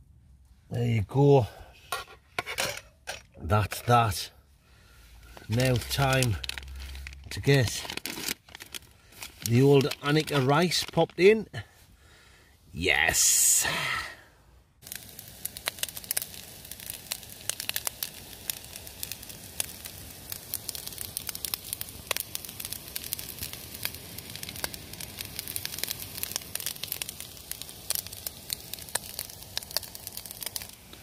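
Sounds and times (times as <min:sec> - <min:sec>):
rice sizzling and crackling: 0:01.8 - 0:11.1, 0:14.8 - 0:31.0.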